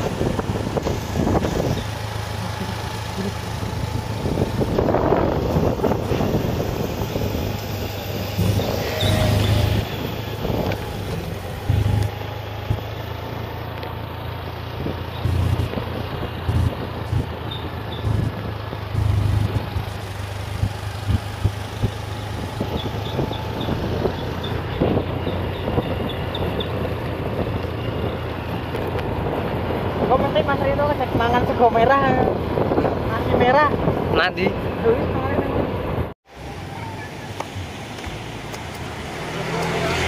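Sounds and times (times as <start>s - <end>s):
wind buffeting microphone: 0.0s - 2.3s, 3.5s - 12.9s, 14.6s - 36.1s
motor scooter engine: 0.0s - 32.9s, 38.1s - 40.0s
road noise: 0.0s - 40.0s.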